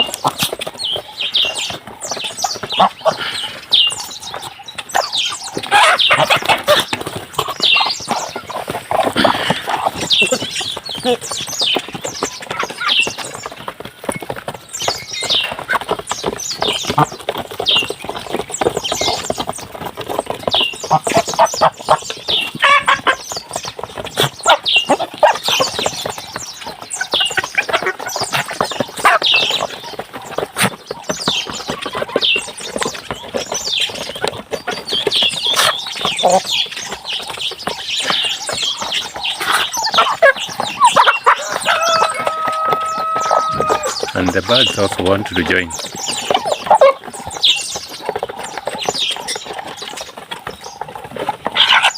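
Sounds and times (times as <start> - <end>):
chickens clucking and peeping: 0.0 - 14.6, 15.3 - 51.9.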